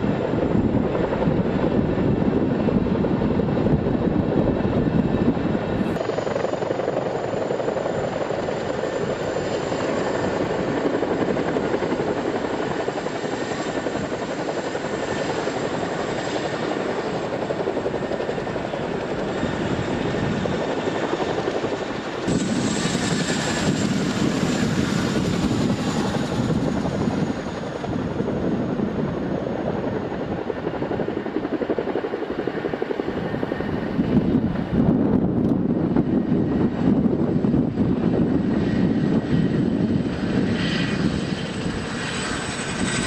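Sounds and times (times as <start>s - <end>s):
helicopter rotor beat: 0.0s - 43.0s
turbine noise: 0.0s - 43.0s.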